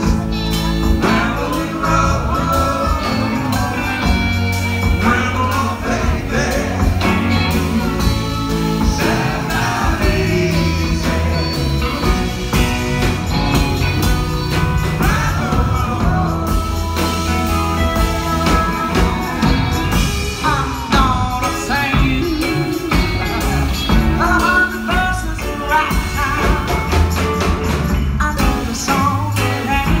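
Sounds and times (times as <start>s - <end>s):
woman singing lead: 0.0s - 27.0s, 27.9s - 30.0s
bass guitar: 0.0s - 30.0s
electric guitars: 0.0s - 30.0s.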